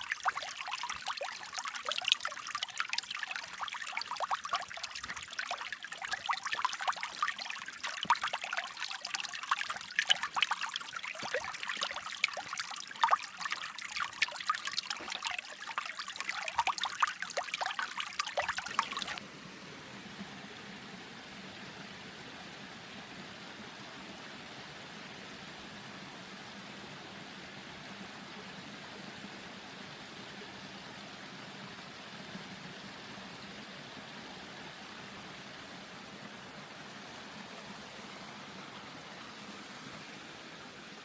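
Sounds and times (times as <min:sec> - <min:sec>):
creek water trickling over stones: 0:00.0 - 0:41.0.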